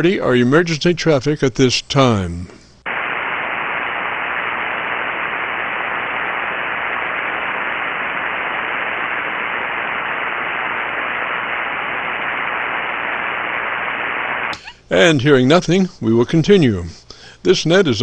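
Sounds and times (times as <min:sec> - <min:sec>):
radio band noise hiss: 0:00.0 - 0:18.0.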